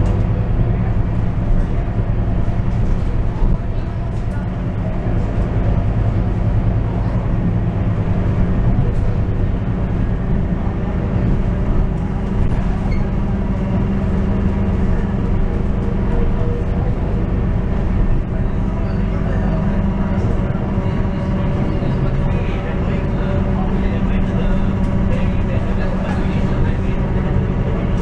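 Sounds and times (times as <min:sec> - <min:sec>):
bus diesel engine drone: 0:00.0 - 0:28.0.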